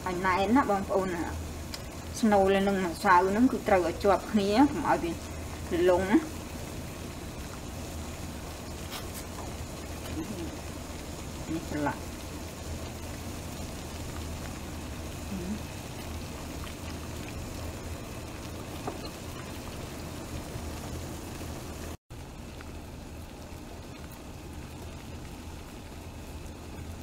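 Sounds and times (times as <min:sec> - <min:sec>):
water boiling in a pot: 0:00.0 - 0:27.0.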